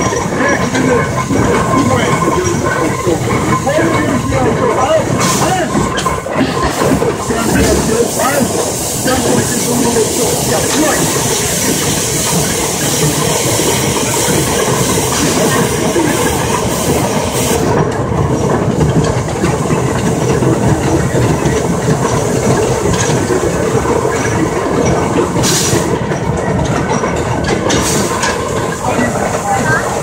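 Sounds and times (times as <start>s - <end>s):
steam hissing: 0.0s - 30.0s
steam locomotive clattering: 0.0s - 30.0s.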